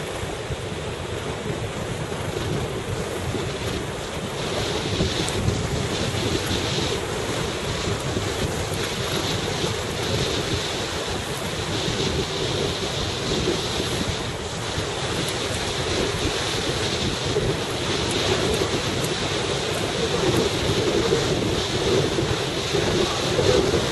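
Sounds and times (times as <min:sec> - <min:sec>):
sea wash: 0:00.0 - 0:23.9
wind buffeting microphone: 0:00.0 - 0:23.9.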